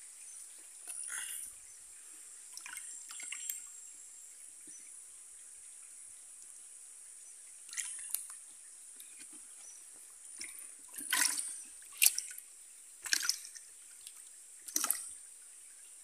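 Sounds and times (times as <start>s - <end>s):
faint high hiss: 0.0s - 16.0s
water splashing and trickling: 0.0s - 16.0s.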